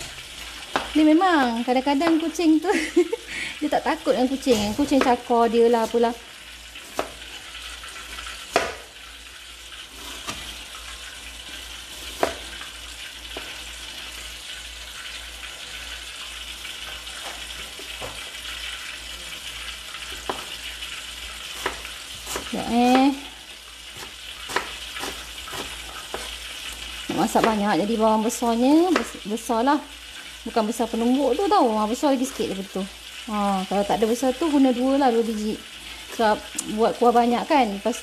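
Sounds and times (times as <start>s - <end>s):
food sizzling in a wok: 0.0s - 38.0s.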